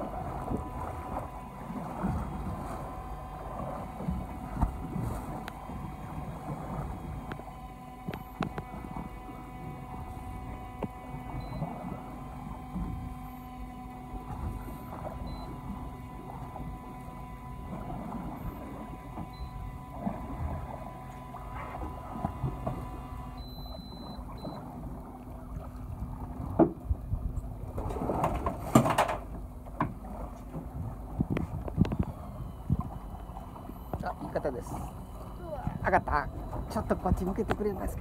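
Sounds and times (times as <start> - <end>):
electric fishing reel motor humming: 0.0 - 27.7, 30.8 - 38.0.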